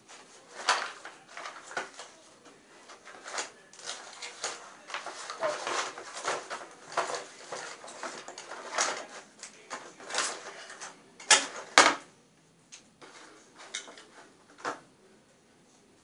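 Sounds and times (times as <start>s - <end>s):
plastic toys rustling and clicking: 0.0s - 12.1s, 12.7s - 14.9s.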